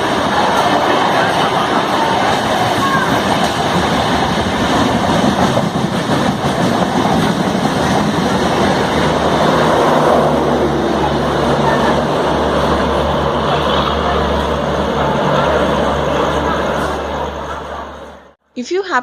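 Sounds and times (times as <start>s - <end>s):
train wheels rumbling on rail: 0.0s - 18.4s.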